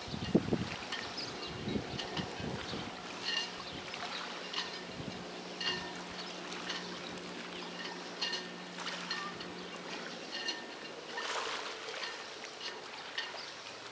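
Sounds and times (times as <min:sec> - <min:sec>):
steady low hum: 0:00.0 - 0:13.9
water lapping against pilings: 0:00.0 - 0:13.9.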